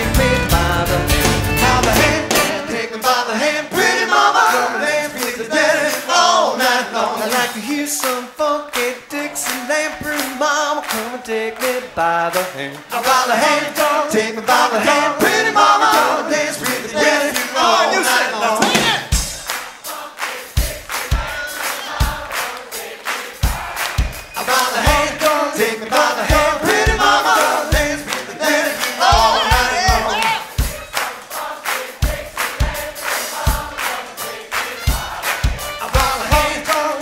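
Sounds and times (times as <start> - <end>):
song with vocals over beat: 0.0 - 37.0.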